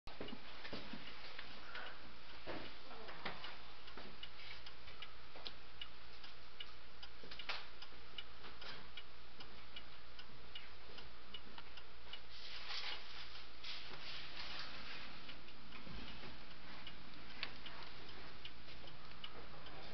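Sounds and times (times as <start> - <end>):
clock ticking: 0.1 - 19.9.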